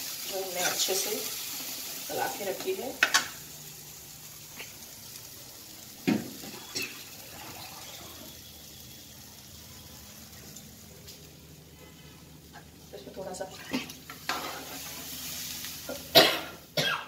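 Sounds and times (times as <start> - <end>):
lentils sizzling in hot oil: 0.0 - 16.8.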